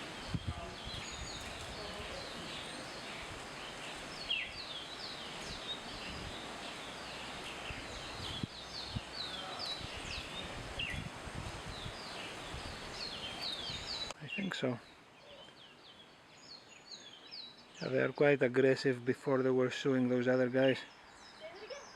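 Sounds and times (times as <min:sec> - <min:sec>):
steady rushing hiss: 0:00.0 - 0:20.9
small birds chirping: 0:00.0 - 0:21.9.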